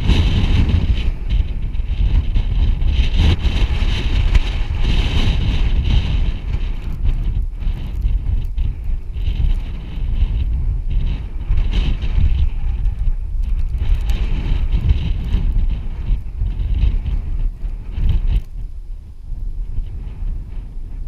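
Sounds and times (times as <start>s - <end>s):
vehicle rumbling on a trail: 0.0s - 21.0s
wind buffeting microphone: 0.0s - 21.0s.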